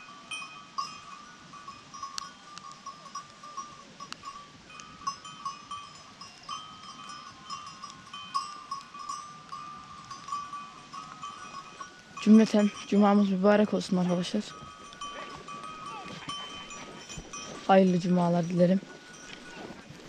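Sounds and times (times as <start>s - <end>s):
goat bells clinking: 0.0s - 20.0s.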